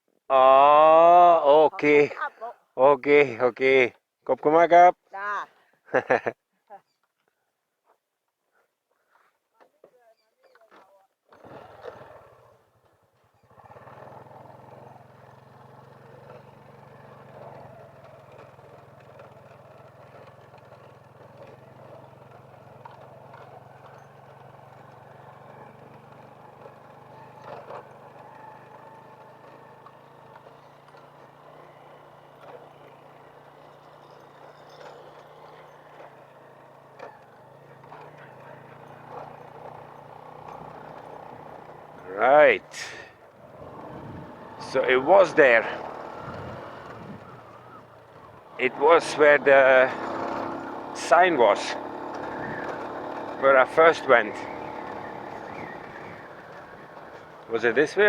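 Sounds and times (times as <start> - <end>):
motorbike engine running: 11.3 - 58.0.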